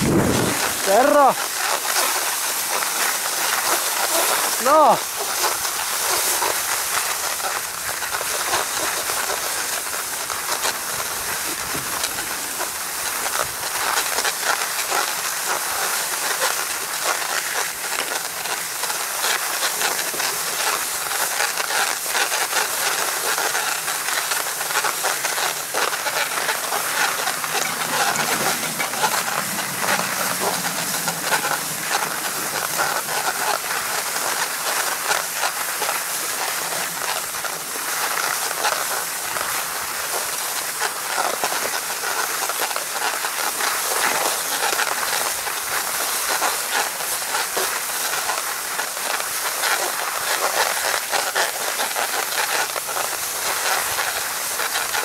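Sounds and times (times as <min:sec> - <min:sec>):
skis sliding on snow: 0:00.0 - 0:55.0.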